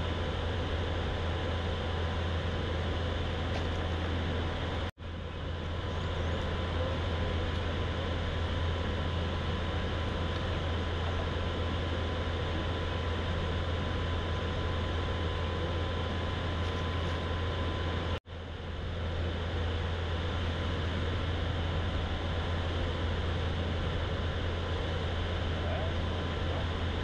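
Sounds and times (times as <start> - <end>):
electric outboard motor humming: 0.0 - 27.0
faint steady whine: 0.0 - 27.0.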